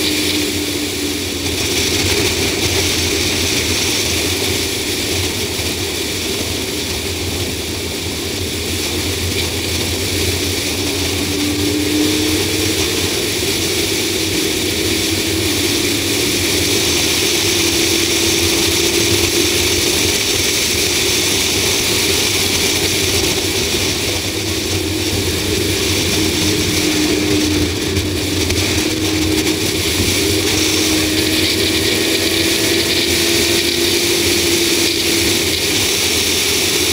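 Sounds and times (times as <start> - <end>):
faint engine hum: 0.0 - 36.9
wind and road noise: 0.0 - 36.9.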